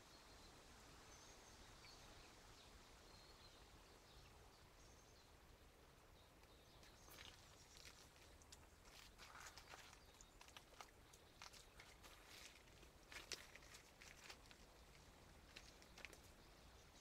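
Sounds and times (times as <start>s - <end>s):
faint woodland ambience: 0.0s - 17.0s.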